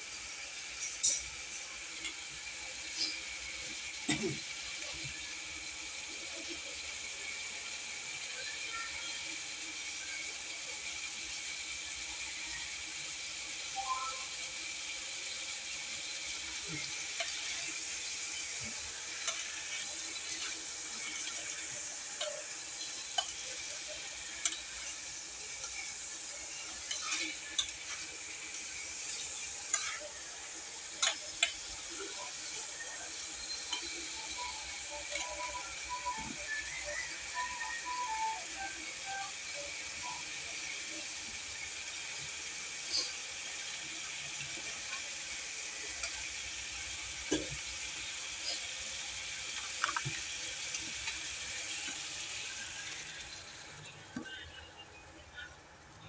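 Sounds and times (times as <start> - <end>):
meat sizzling in a pan: 0.0 - 55.8.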